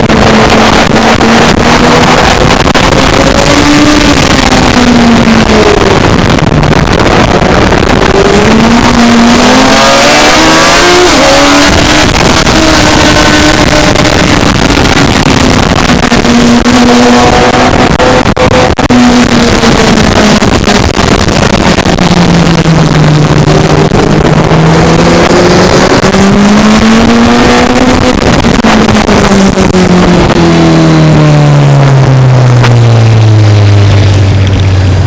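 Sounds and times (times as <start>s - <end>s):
racing engine: 0.0s - 35.0s
wind noise: 0.0s - 35.0s.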